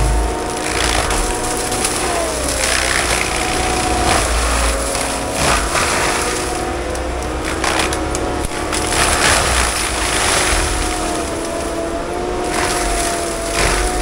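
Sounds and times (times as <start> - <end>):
crackling noises: 0.0 - 14.0
diesel engine running under load: 0.0 - 14.0
whine shifting in pitch: 0.0 - 14.0.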